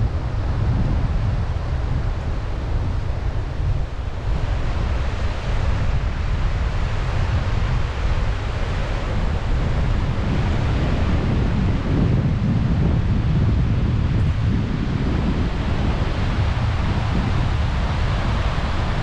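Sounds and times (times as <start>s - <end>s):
wind buffeting microphone: 0.0s - 19.0s
sea waves washing on shore: 1.2s - 19.0s.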